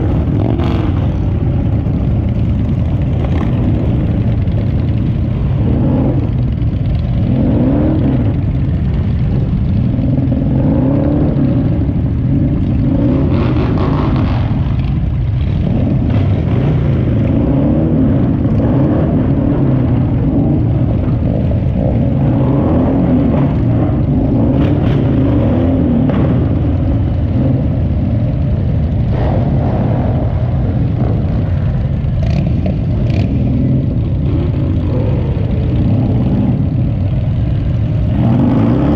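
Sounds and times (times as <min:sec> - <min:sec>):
motorcycle engine rumbling close: 0:00.0 - 0:38.9
other motorcycles around: 0:00.0 - 0:38.9.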